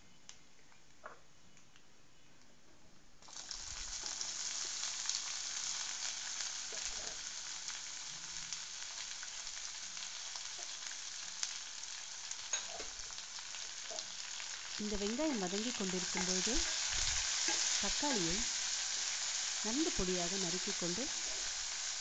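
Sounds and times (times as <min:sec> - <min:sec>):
onions sizzling in oil: 0:03.2 - 0:22.0.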